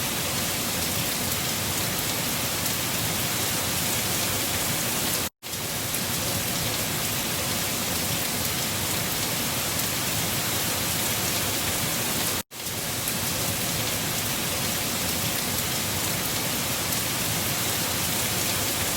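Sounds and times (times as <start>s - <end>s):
driven rain: 0.0s - 18.9s
wind: 0.0s - 18.9s.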